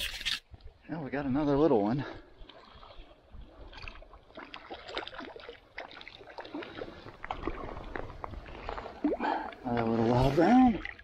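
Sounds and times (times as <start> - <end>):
trickling water: 0.0 - 11.0
small water splashes: 1.8 - 11.0.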